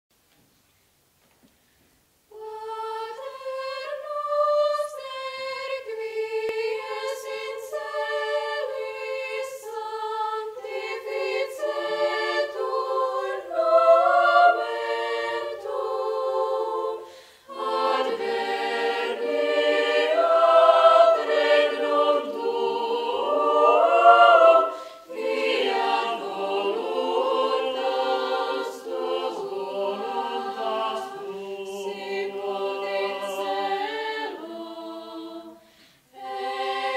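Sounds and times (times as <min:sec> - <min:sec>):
choir singing a cappella: 0:02.3 - 0:36.9.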